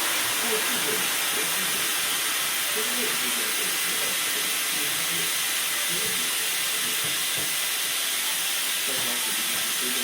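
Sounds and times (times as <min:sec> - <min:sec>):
air hissing into balloon: 0:00.0 - 0:10.0
faint muffled voices: 0:00.3 - 0:07.3, 0:08.1 - 0:10.0.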